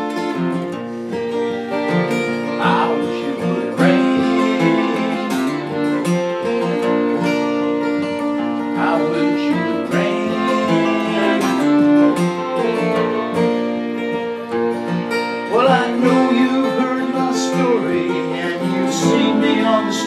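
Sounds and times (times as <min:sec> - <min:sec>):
acoustic guitars: 0:00.0 - 0:20.0
fiddle playing melody: 0:00.0 - 0:20.0.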